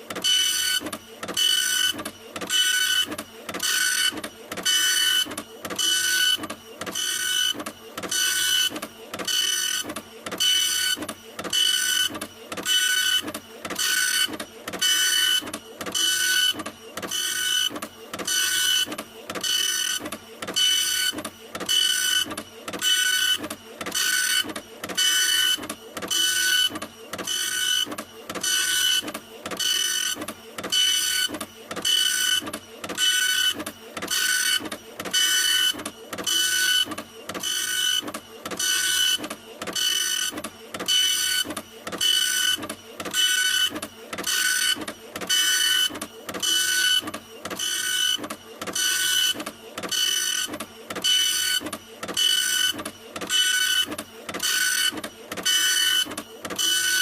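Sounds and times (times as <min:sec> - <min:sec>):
printer head whirring: 0:00.0 - 0:57.0.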